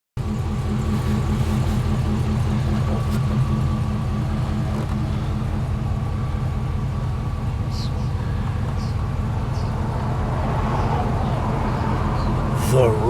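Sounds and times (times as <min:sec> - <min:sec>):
engine running with low pulsing: 0:00.2 - 0:13.0.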